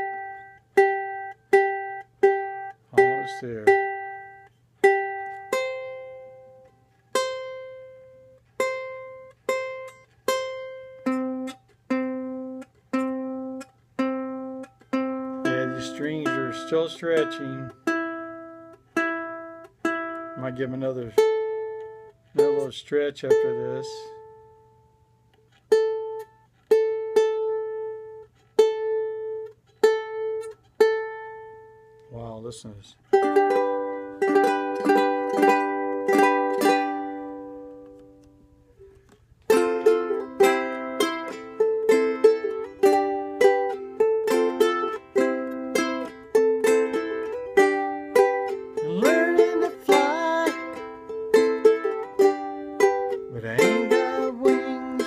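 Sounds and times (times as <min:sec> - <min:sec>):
ukulele strings plucked: 0:00.0 - 0:24.8, 0:25.4 - 0:32.3, 0:33.0 - 0:55.0.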